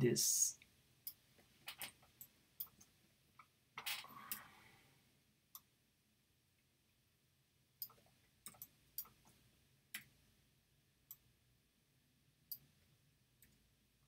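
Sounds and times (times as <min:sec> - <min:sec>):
faint low room hum: 0:00.0 - 0:14.0.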